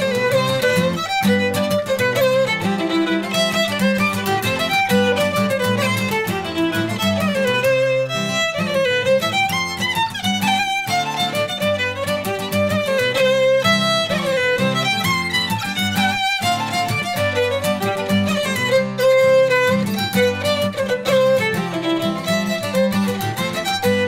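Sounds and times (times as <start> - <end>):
fiddle playing a lively jig: 0.0 - 24.0
strummed acoustic guitar: 0.0 - 24.0.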